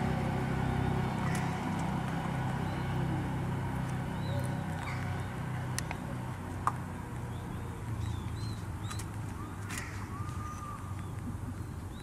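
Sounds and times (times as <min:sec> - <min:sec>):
low background rumble: 0:00.0 - 0:12.0
small birds chirping: 0:00.1 - 0:12.0.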